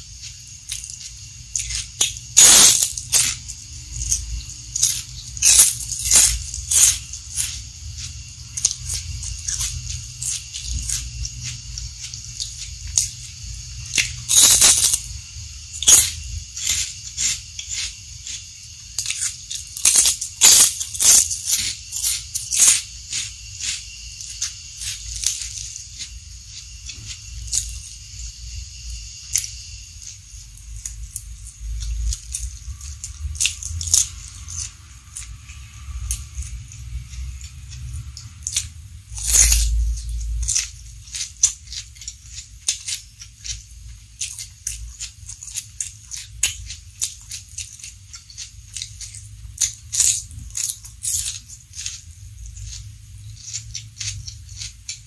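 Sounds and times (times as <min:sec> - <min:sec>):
crunching and chewing cracker: 0:00.0 - 0:55.0.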